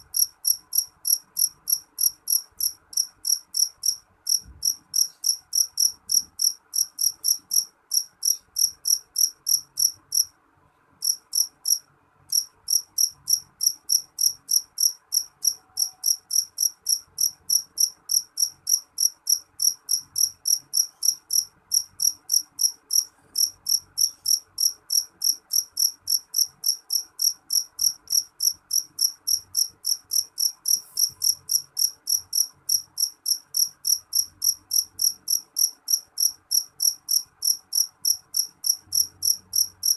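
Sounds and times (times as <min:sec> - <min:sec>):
cricket chirping: 0:00.0 - 0:10.3, 0:11.0 - 0:39.9.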